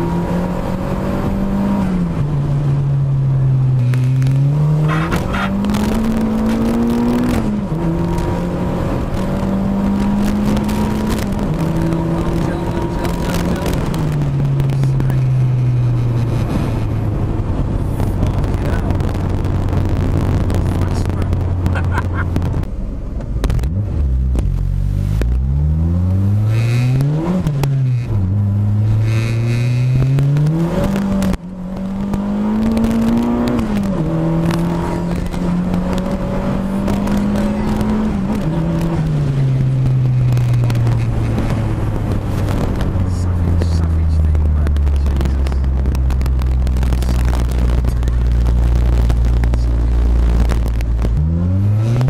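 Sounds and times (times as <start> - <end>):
car engine revving from inside cabin: 3.5 - 22.6, 23.5 - 52.0.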